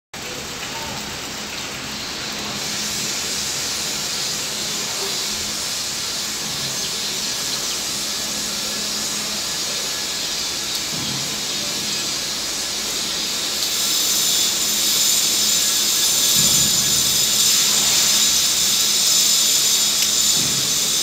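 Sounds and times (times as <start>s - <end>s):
steady rain hiss: 0.2s - 21.0s.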